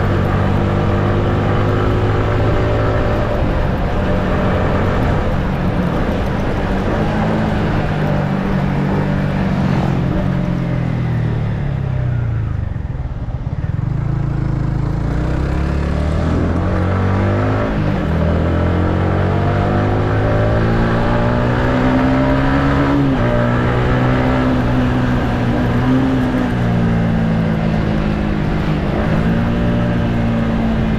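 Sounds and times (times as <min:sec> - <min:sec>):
motorcycle engine while riding: 0:00.0 - 0:30.9.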